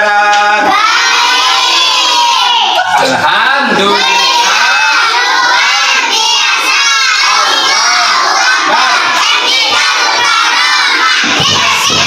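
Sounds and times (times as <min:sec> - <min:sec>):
children shouting together: 0:00.4 - 0:12.0.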